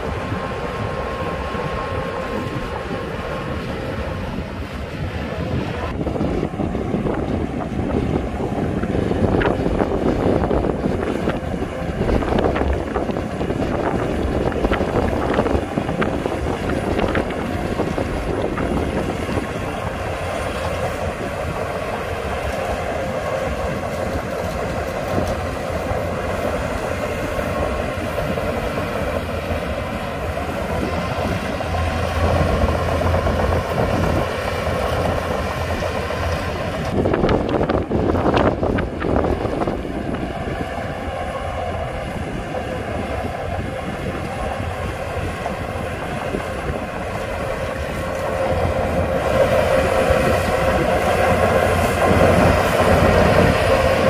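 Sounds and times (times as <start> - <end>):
bulldozer diesel engine running: 0.0 - 54.0
steel tracks rattling: 6.5 - 54.0.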